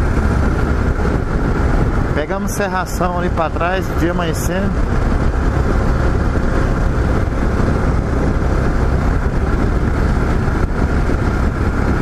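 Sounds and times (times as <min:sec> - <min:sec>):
motorcycle engine drone: 0:00.0 - 0:12.0
rushing air: 0:00.0 - 0:12.0.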